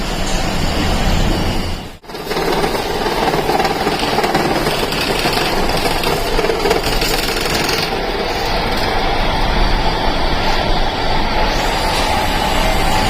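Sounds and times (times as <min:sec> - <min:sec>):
metalworking machinery clatter: 0:00.0 - 0:10.8.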